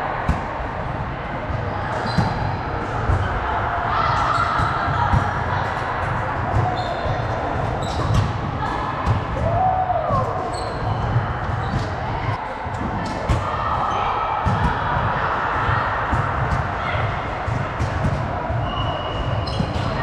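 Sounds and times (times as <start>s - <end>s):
players' voices: 0.0s - 20.0s.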